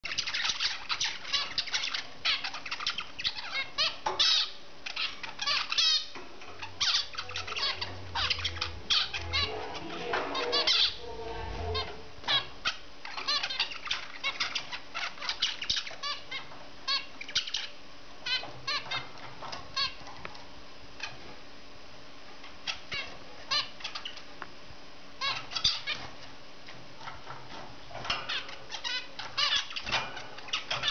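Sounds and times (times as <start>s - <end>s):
finches chirping: 0.0s - 20.1s, 22.6s - 24.3s, 25.2s - 26.1s, 27.0s - 30.9s.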